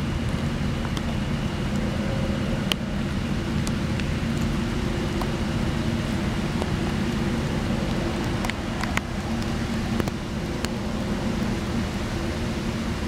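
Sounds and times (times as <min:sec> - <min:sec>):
highway traffic rumble: 0:00.0 - 0:13.0
raindrops ticking: 0:00.0 - 0:13.0.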